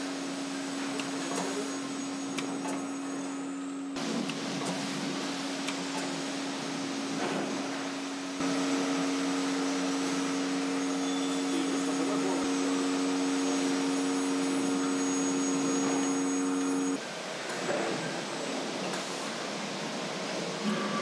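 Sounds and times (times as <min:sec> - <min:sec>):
electric machine hum with tones: 0:00.0 - 0:17.0.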